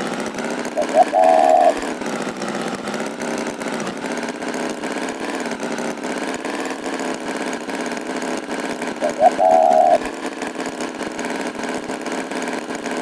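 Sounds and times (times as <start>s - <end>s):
tractor engine pulsing: 0.0s - 13.0s.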